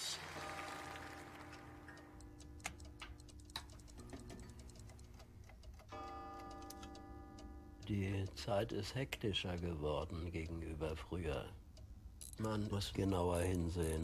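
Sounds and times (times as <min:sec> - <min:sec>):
mechanical clocks ticking: 0:00.3 - 0:14.0.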